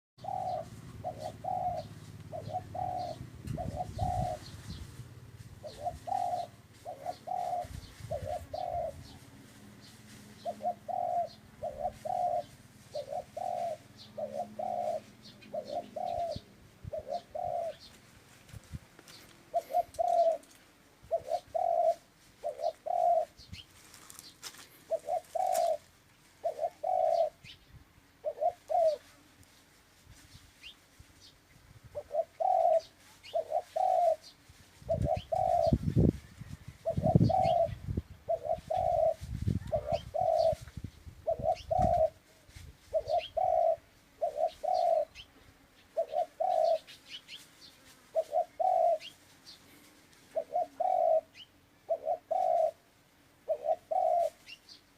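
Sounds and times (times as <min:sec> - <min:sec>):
dove cooing: 0:00.2 - 0:09.3, 0:10.4 - 0:18.0, 0:19.1 - 0:29.2, 0:31.9 - 0:54.8.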